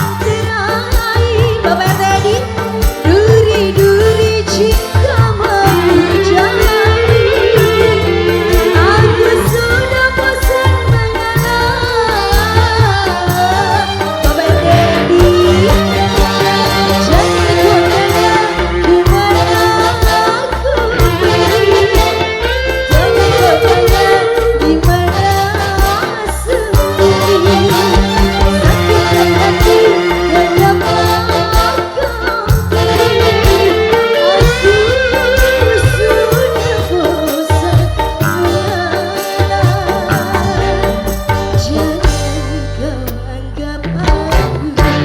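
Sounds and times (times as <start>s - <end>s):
hand drums and bass: 0.0s - 45.0s
wavering band melody: 0.1s - 45.0s.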